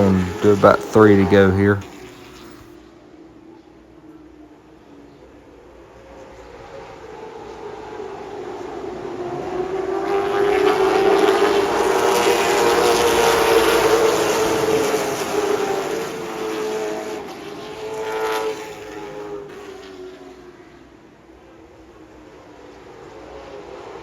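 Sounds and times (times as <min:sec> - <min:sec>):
race car engine at speed: 0:00.0 - 0:24.0.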